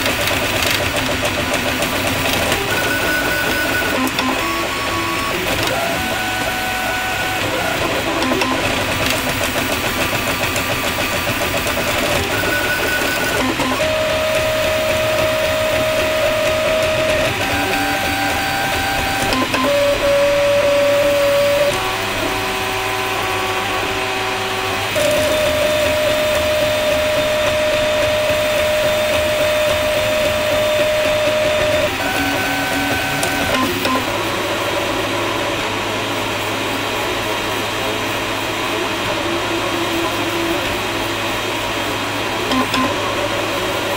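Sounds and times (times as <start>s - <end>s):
stepper motors whining: 0.0s - 35.9s, 38.4s - 43.9s
steady machine hum: 0.0s - 43.9s.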